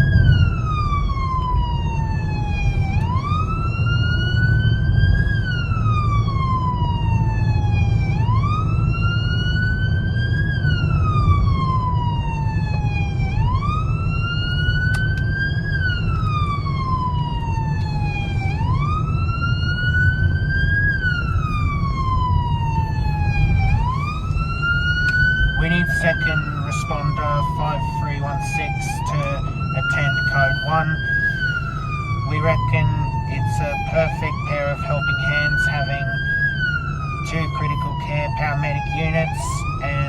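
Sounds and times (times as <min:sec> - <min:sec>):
emergency siren wailing: 0:00.0 - 0:40.0
low vehicle rumble: 0:00.0 - 0:40.0.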